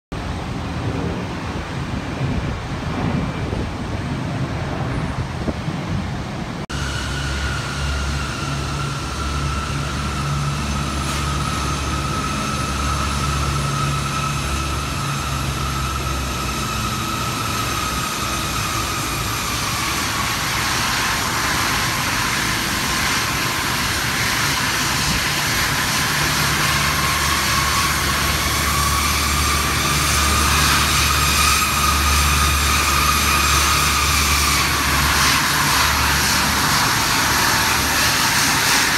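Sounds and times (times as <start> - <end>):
jet engines whining at taxi power: 0.2 - 38.9.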